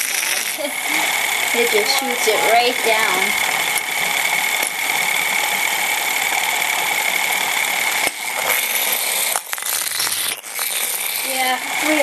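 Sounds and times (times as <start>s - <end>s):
toy motor whirring: 0.0s - 12.0s.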